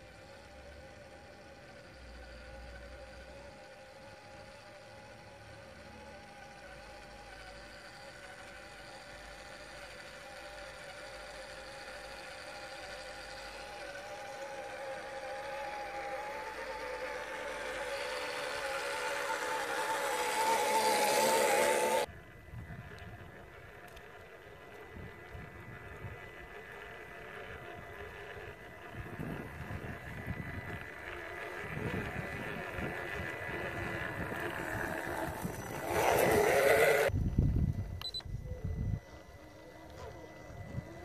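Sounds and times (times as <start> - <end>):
vehicle engine whine: 0.0 - 41.0.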